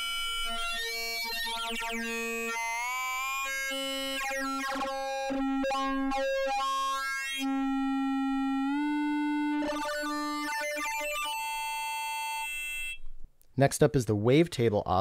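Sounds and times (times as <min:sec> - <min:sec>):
organ-like synth tone: 0:00.0 - 0:13.0.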